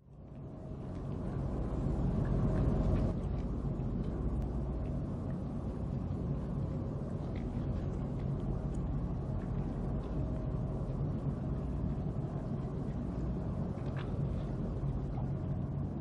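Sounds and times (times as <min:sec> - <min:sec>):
harbour ambience low rumble: 0:00.0 - 0:16.0.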